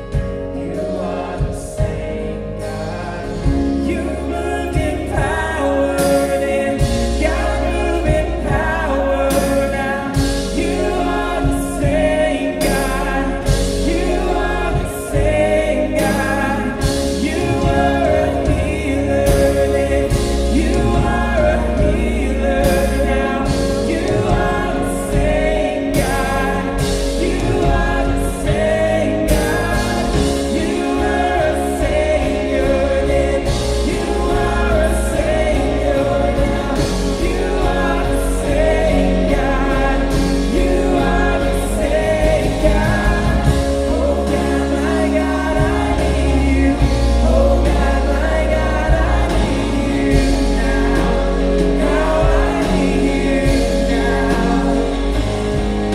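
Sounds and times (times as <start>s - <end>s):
band playing: 0.0s - 55.9s
steady drum beat: 0.0s - 55.9s
voices singing together: 0.0s - 55.9s.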